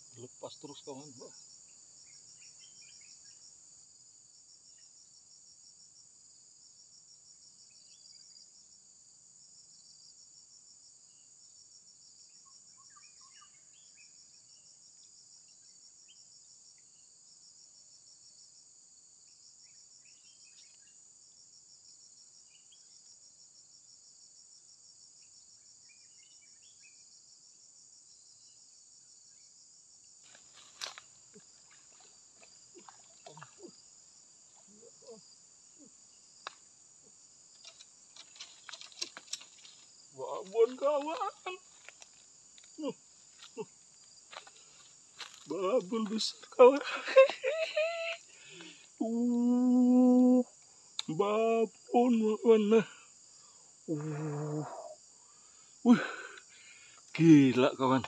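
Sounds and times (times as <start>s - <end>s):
insect chorus hiss: 0.0s - 58.0s.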